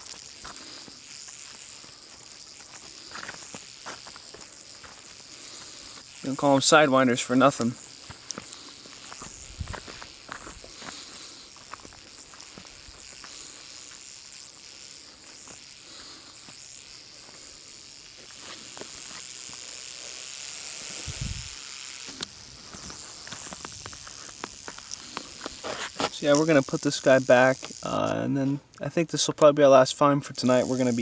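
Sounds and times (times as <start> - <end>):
rattlesnake rattling: 0.0 - 28.3, 30.3 - 31.0.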